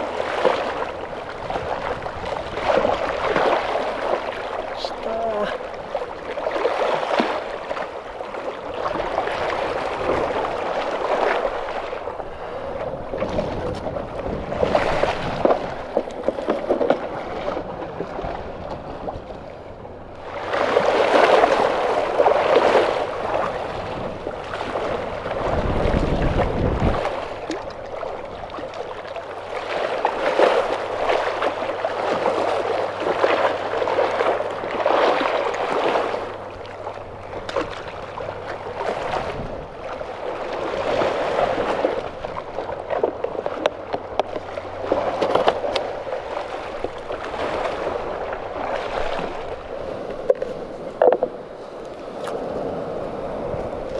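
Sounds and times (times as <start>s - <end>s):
waves washing over rocks: 0.0s - 53.9s
wind rumble on microphone: 0.0s - 53.9s.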